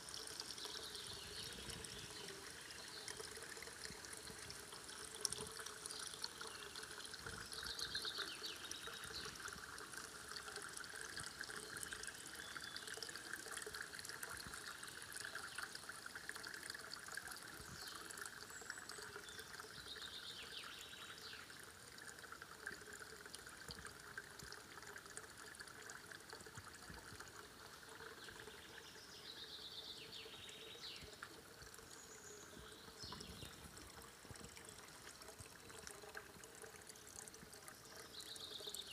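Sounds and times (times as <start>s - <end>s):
water trickling into stone basin: 0.0s - 38.9s.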